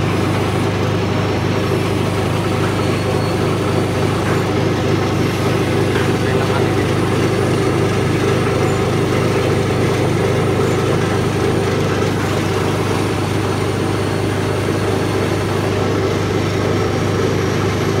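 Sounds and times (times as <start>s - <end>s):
electric flour sifter humming: 0.0s - 18.0s.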